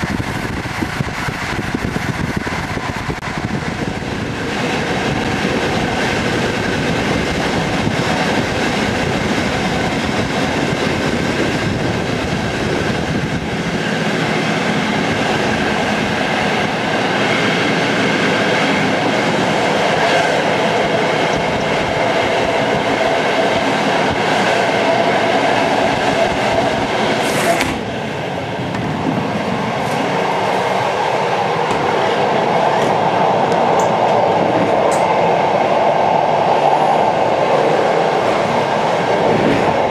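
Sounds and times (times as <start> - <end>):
train rail rumble: 0.0 - 39.9.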